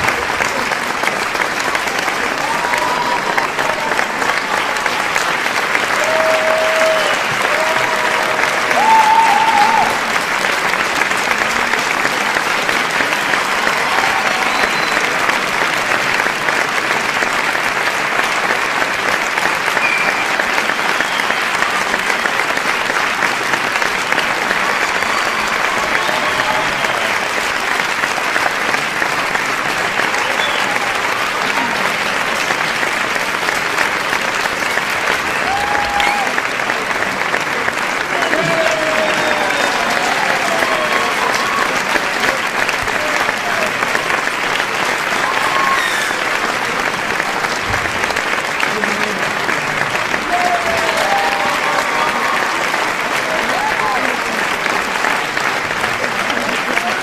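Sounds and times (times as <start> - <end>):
audience applauding: 0.0 - 57.0.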